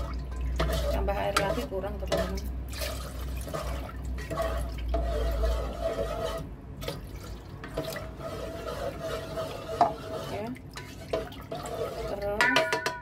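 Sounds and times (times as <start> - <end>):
water pouring and splashing: 0.0 - 13.0
wooden spatula stirring: 0.0 - 13.0.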